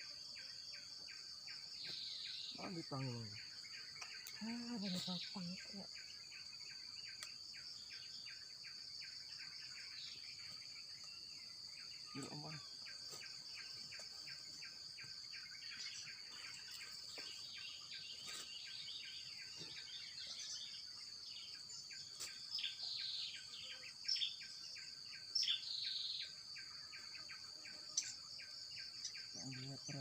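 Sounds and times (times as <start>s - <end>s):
bird chirps: 0.0s - 30.0s
insects droning and chirping: 0.0s - 30.0s.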